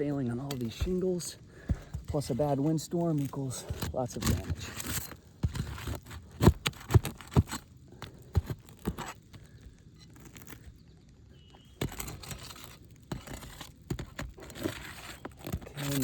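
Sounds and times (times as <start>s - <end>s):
roof shingles cracking: 0.0s - 16.0s.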